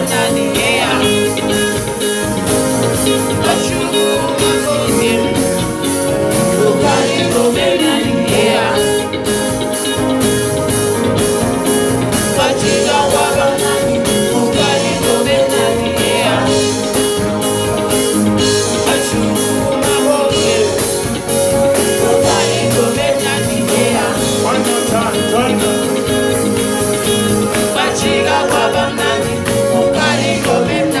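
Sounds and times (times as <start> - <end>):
drums: 0.0 - 31.0
electric guitar: 0.0 - 31.0
singers singing: 0.0 - 31.0.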